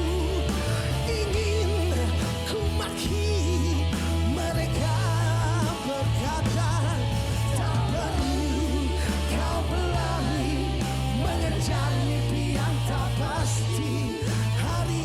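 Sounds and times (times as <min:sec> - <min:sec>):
bass notes: 0:00.0 - 0:15.0
guitar: 0:00.0 - 0:15.0
person singing: 0:00.0 - 0:15.0.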